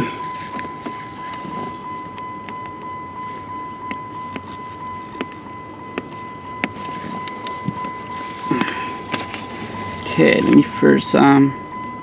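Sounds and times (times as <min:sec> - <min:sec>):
high-pitched tone: 0:00.0 - 0:12.0.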